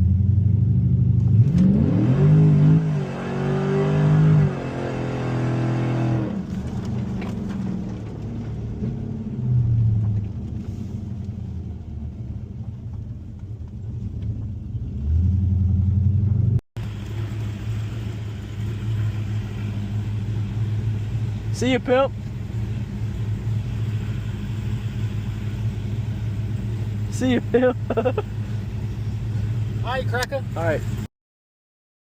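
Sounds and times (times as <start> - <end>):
car engine running: 0.0 - 31.1.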